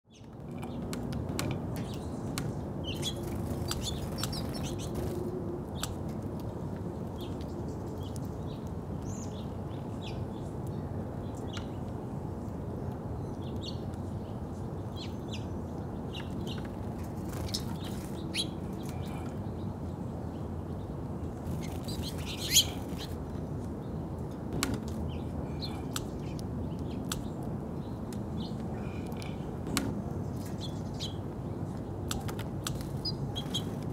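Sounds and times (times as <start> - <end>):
low background noise: 0.1 - 33.9
songbirds chirping: 0.1 - 33.9.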